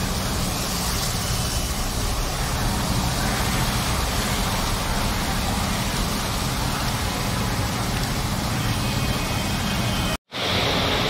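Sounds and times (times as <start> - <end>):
car driving through floodwater: 0.0 - 11.0
heavy rain pouring: 0.0 - 11.0.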